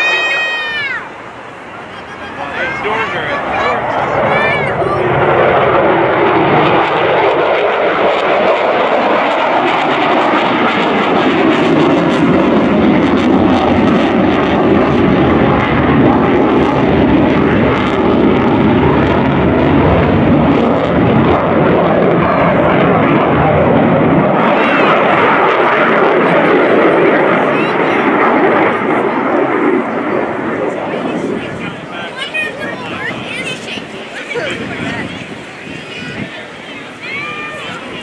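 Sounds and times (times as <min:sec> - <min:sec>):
jet engines flying overhead: 0:00.0 - 0:38.0.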